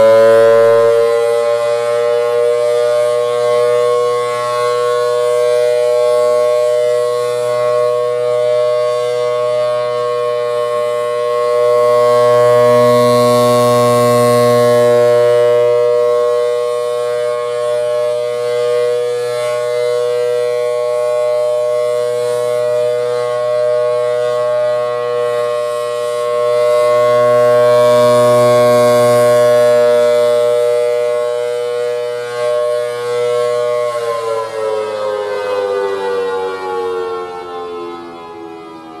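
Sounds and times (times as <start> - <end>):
rotating siren two-note chord: 0.0 - 5.1, 7.6 - 39.0.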